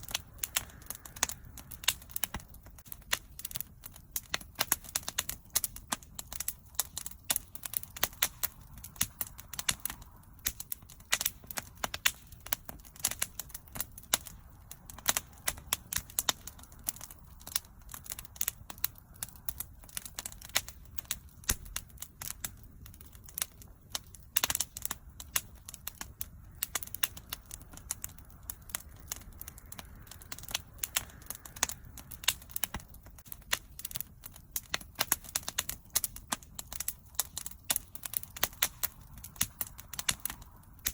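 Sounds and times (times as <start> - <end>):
bonfire crackling and popping: 0.0 - 40.9
low rumble of fire: 0.0 - 40.9.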